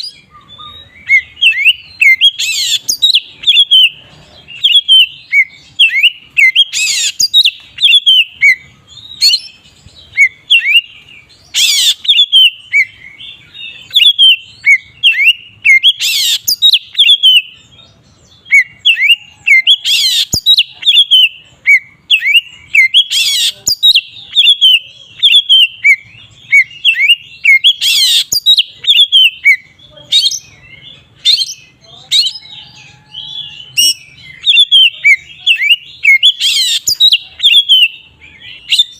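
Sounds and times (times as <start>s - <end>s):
harsh bird call: 0.0s - 17.7s, 18.4s - 38.9s
songbird whistling song: 0.0s - 38.9s.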